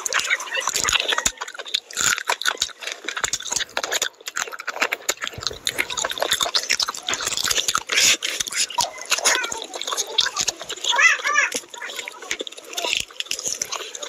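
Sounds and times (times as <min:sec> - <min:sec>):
person chewing with mouth clicks: 0:00.0 - 0:14.0.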